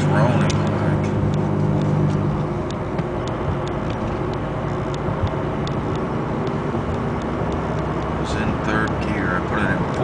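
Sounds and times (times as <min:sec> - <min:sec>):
road and engine noise: 0:00.0 - 0:10.0
wheel bearing drone: 0:00.0 - 0:10.0
sharp ticks: 0:00.4 - 0:10.0.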